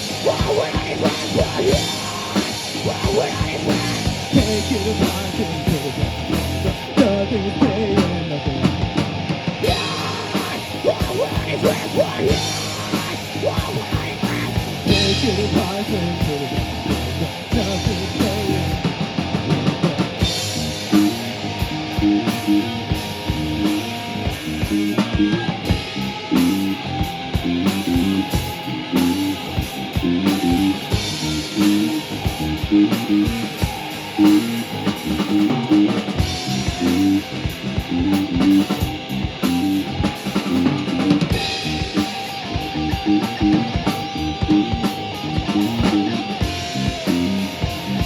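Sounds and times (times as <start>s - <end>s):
drum kit beat: 0.0s - 48.0s
guitar chords: 0.0s - 48.0s
rock band playing: 0.0s - 48.0s.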